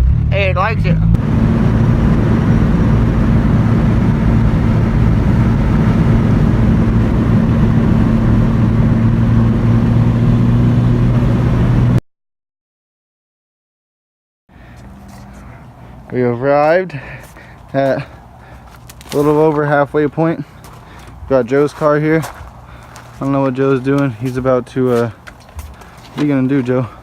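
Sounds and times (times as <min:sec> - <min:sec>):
car engine droning: 0:00.0 - 0:12.0, 0:14.6 - 0:27.0
road noise: 0:00.0 - 0:12.0, 0:14.5 - 0:27.0.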